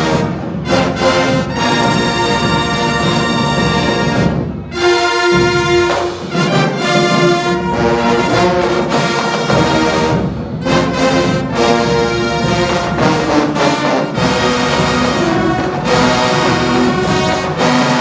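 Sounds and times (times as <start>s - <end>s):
brass band playing chords: 0.0s - 18.0s.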